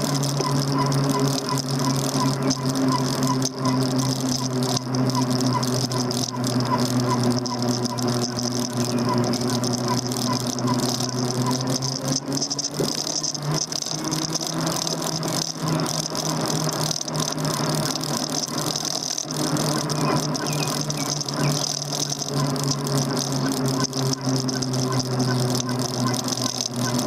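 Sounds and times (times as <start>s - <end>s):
bike rattling: 0.0s - 27.0s
electric motor hum with whine: 0.0s - 27.0s.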